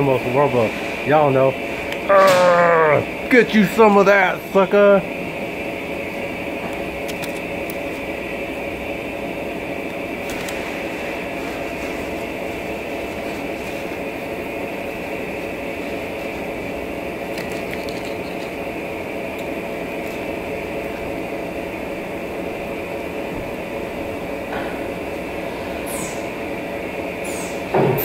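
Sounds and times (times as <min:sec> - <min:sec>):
high steady whine: 0:00.0 - 0:28.0
machine hum: 0:00.0 - 0:28.0.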